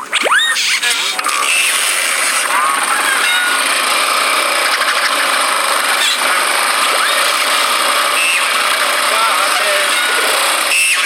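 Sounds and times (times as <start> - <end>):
motorcycle engine running: 0.9 - 11.0.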